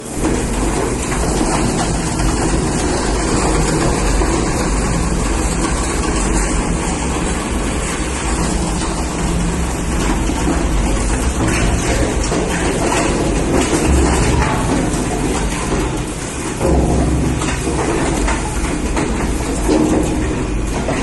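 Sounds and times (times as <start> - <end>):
plastic crusher running: 0.0 - 21.0.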